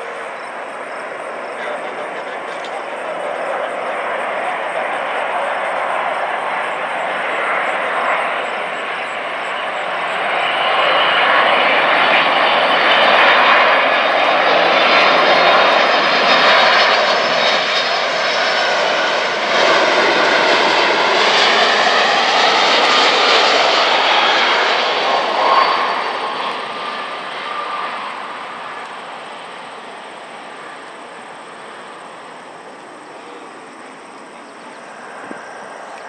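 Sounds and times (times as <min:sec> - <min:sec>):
jet engines rushing: 0:00.0 - 0:36.0.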